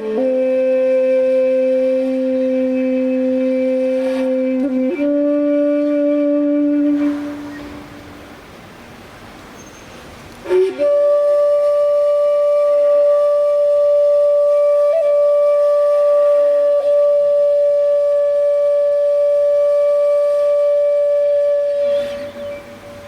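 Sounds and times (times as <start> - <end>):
long flute-like note: 0.0 - 8.3, 10.4 - 23.0.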